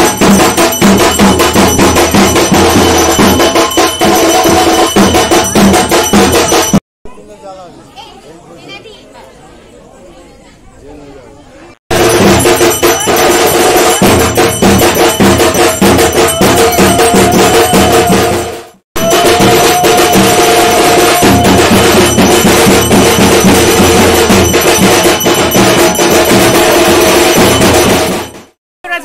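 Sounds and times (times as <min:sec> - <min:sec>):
drums beating fast: 0:00.0 - 0:06.8, 0:11.9 - 0:29.0.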